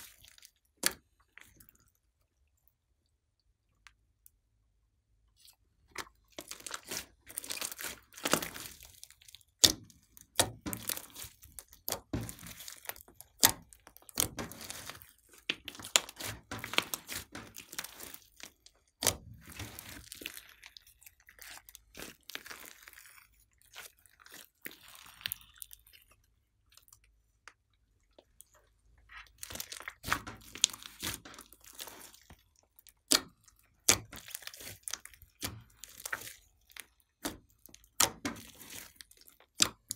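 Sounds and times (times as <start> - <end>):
slime squishing with wet clicks: 0.0 - 39.9.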